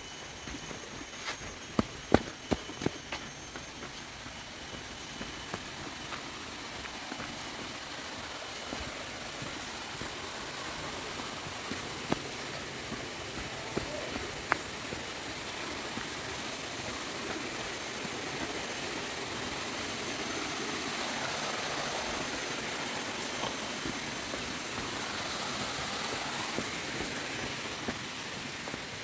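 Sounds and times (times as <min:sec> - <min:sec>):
high insect whine: 0:00.0 - 0:29.0
rushing forest ambience: 0:00.0 - 0:29.0.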